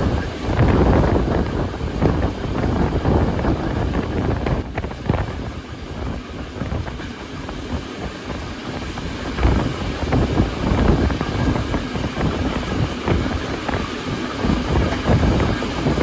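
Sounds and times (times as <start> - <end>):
train rolling noise: 0.0 - 16.0
wind buffeting microphone: 0.0 - 16.0.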